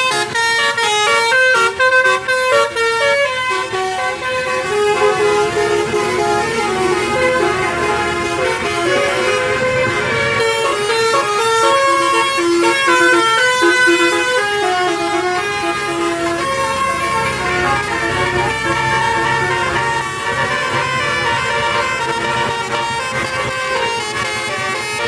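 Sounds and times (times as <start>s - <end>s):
musical bus horn tune: 0.0s - 25.0s.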